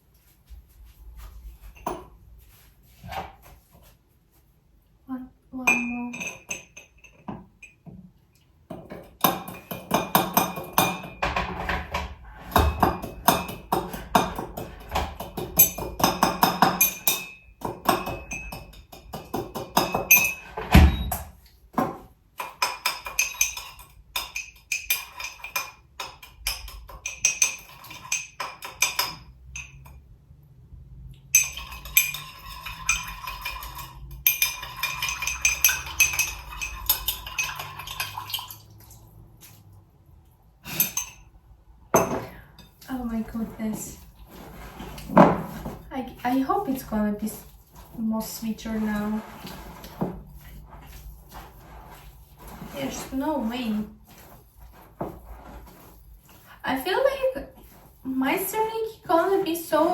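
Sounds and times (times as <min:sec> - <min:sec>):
spoon knocking and scraping in bowl: 0:01.8 - 0:03.4, 0:05.6 - 0:08.0, 0:08.7 - 0:30.0, 0:31.2 - 0:38.4, 0:40.7 - 0:41.3, 0:41.9 - 0:59.9.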